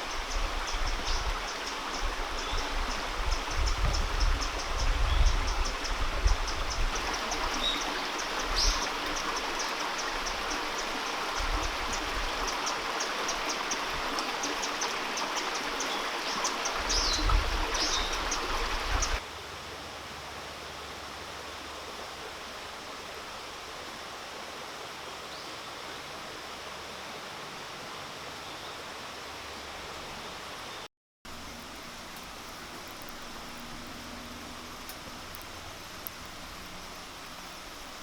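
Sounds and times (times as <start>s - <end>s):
mountain stream running: 0.0s - 38.0s.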